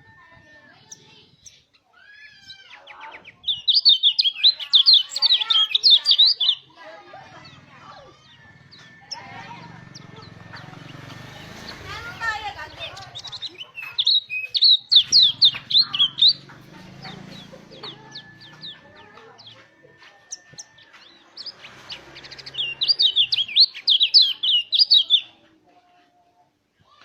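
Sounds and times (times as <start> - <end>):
bird rapid high chirps: 0.8 - 19.6, 20.3 - 25.4.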